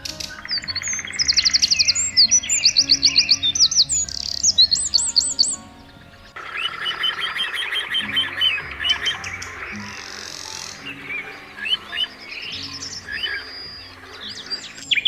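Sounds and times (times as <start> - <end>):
small birds chirping: 0.0 - 15.0
soft background music: 0.0 - 15.0.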